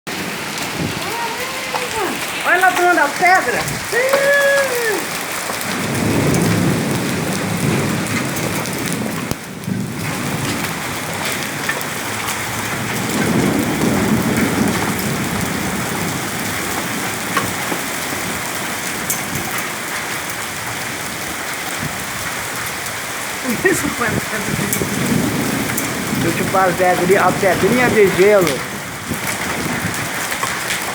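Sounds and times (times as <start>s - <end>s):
hailstones ticking: 0.1s - 30.9s
heavy rain and hail: 0.1s - 30.9s
thunder rumbling: 0.1s - 30.9s.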